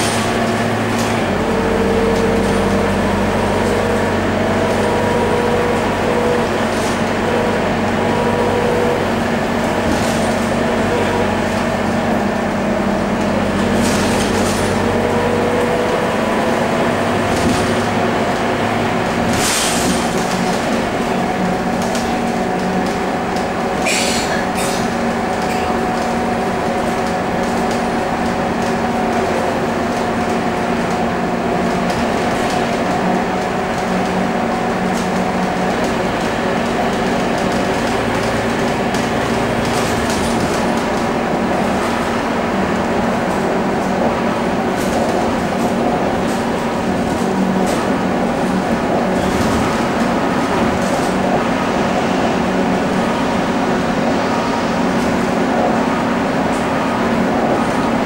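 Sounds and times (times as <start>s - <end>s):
bus diesel engine droning: 0.0s - 58.0s
road and cabin noise: 0.0s - 58.0s.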